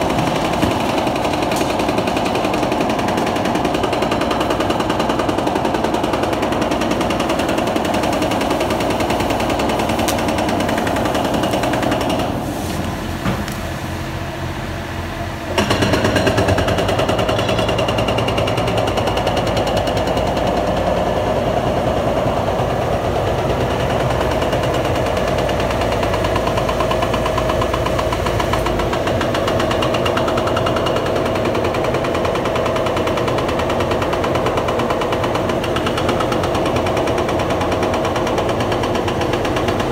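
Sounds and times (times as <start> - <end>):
demolition breaker hammering concrete: 0.0 - 12.4, 15.5 - 39.9.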